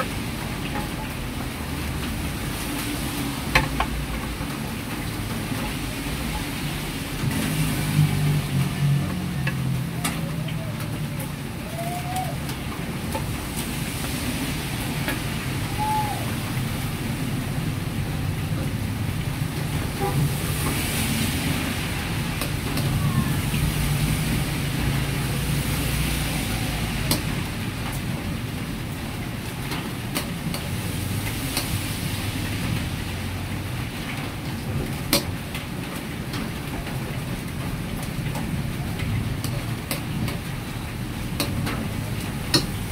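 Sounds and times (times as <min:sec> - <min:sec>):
gas burner roaring: 0:01.4 - 0:42.9.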